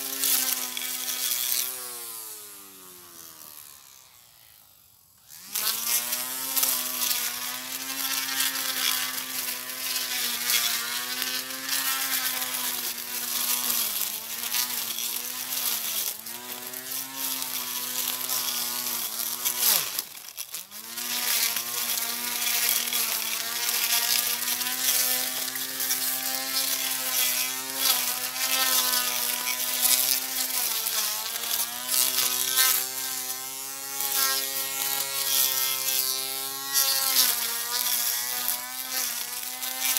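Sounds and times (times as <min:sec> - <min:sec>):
grass cutter motor whining: 0:00.0 - 0:39.9.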